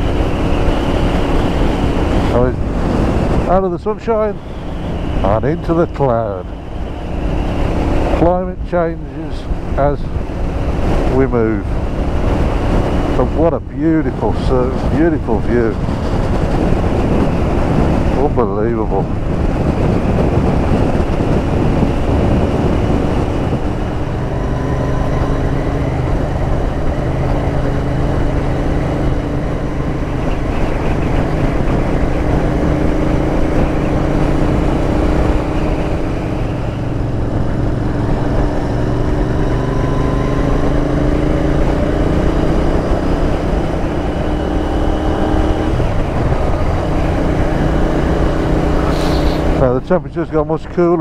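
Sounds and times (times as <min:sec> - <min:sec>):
motorcycle engine cruising: 0:00.0 - 0:51.0
road noise: 0:00.0 - 0:51.0
wind noise: 0:00.0 - 0:51.0.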